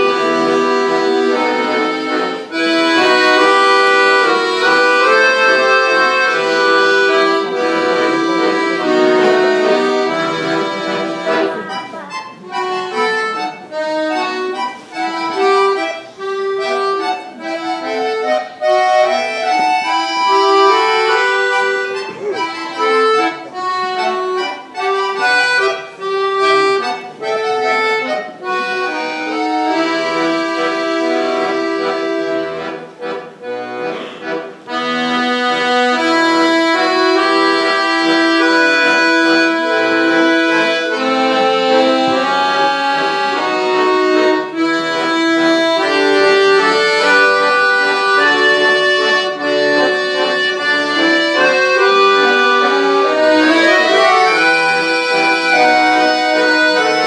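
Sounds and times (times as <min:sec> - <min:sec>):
accordion ensemble playing: 0:00.0 - 0:57.0.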